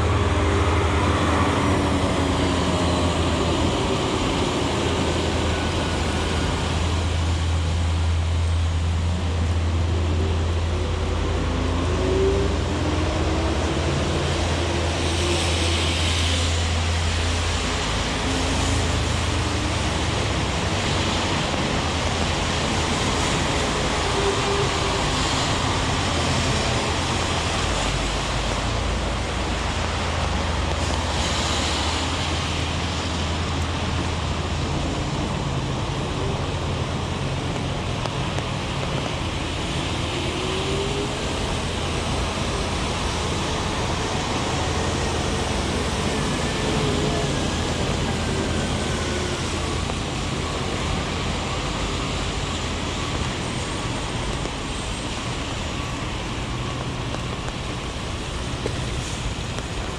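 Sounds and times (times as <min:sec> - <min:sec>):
heavy rain hiss: 0:00.0 - 0:59.9
tyres passing on wet pavement: 0:00.0 - 0:59.9.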